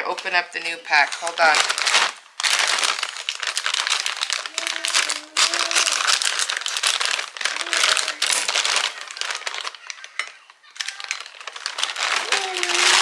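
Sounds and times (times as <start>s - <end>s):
plastic bag tearing: 0.0s - 13.0s
plastic packaging crinkling: 0.0s - 13.0s.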